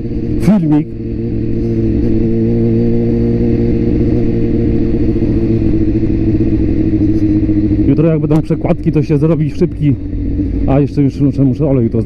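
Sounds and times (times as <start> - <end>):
motorcycle engine running steadily: 0.0 - 12.0
road and air noise: 0.0 - 12.0.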